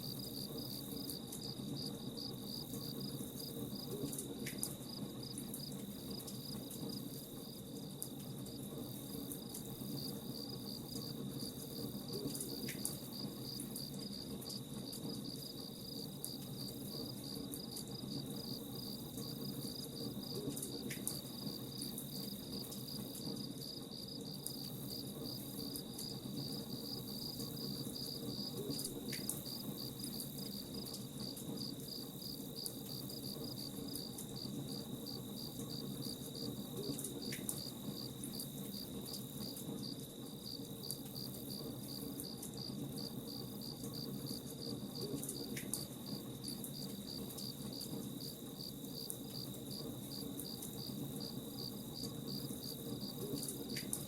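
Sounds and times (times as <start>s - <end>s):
crickets chirping: 0.0s - 4.2s, 4.8s - 54.0s.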